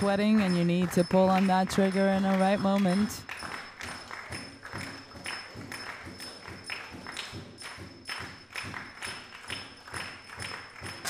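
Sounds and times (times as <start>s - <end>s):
rhythmic clapping of spectators: 0.0s - 11.0s.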